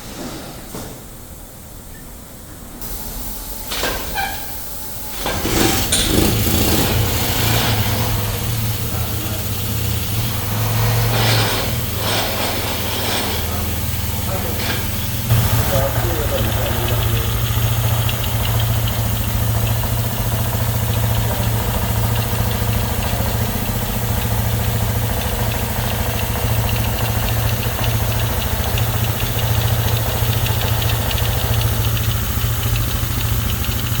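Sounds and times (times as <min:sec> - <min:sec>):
motorcycle engine idling: 0:04.2 - 0:34.0.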